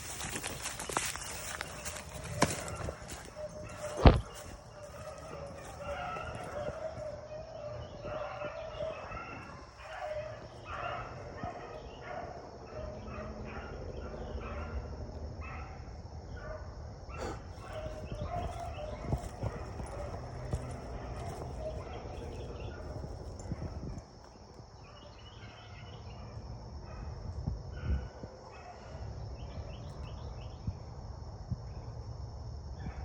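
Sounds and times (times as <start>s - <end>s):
beagles baying: 0.0s - 30.3s.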